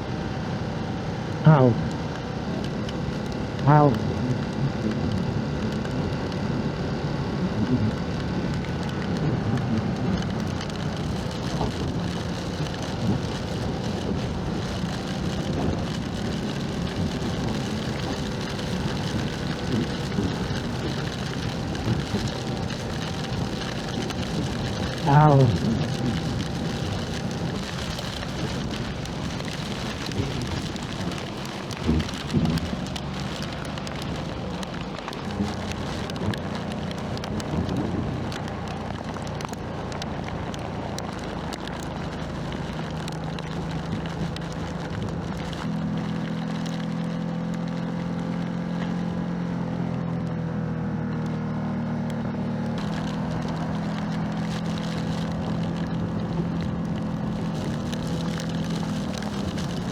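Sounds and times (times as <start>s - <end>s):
motorcycle engine: 0.0s - 59.9s
rain and hail ticking: 0.0s - 59.9s.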